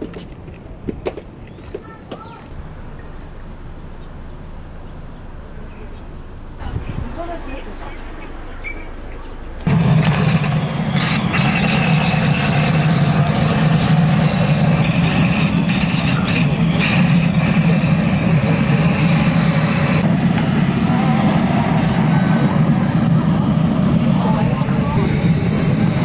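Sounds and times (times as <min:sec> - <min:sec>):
low mechanical drone: 0:01.8 - 0:26.0.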